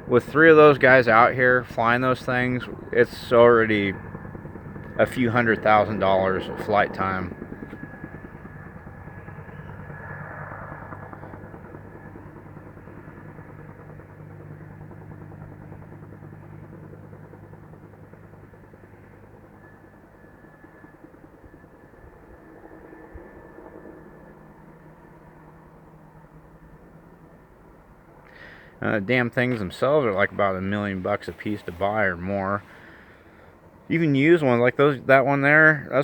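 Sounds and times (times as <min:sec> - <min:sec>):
helicopter rotor chopping: 0:00.0 - 0:36.0.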